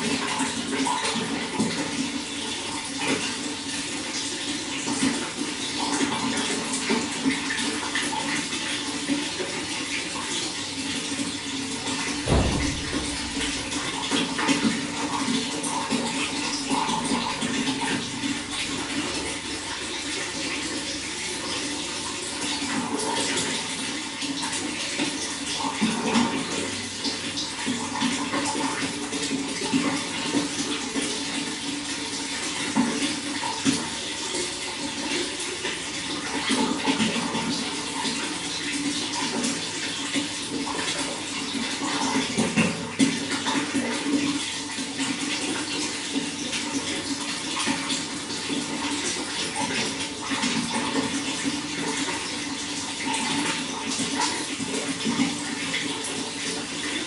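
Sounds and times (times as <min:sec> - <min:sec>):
running water splashing: 0:00.0 - 0:57.0.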